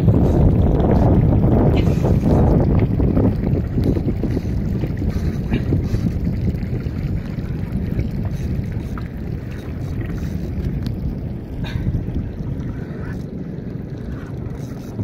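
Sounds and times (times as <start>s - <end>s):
water lapping against boat hull: 0.0s - 15.0s
wind rumbling on microphone: 0.0s - 15.0s.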